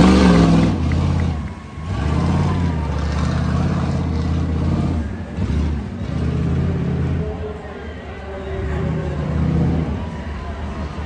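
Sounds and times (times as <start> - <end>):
truck engine revving: 0.0 - 7.6, 8.5 - 11.0.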